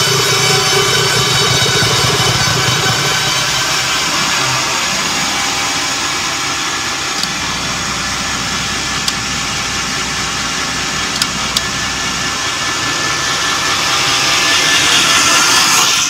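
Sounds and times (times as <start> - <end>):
sawmill whirring: 0.0 - 16.0.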